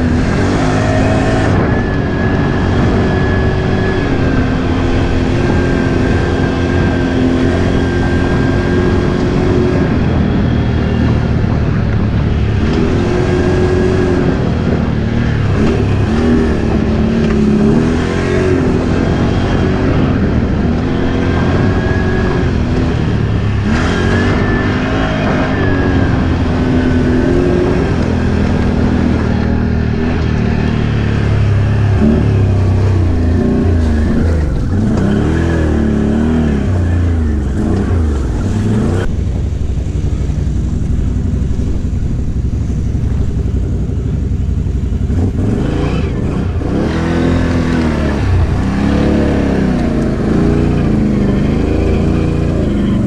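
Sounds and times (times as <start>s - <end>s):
atv engine revving: 0.0s - 53.0s
wind and tyre noise: 0.0s - 53.0s.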